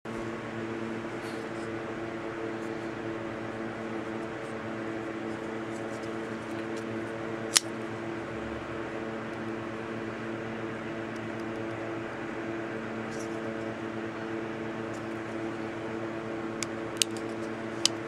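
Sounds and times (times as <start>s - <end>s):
steady hum: 0.1s - 18.0s.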